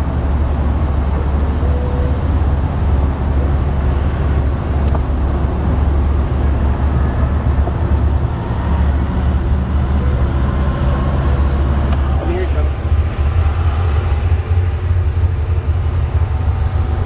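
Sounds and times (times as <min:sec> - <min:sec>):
commuter train passing: 0:00.0 - 0:17.0
road traffic rumble: 0:00.0 - 0:17.0.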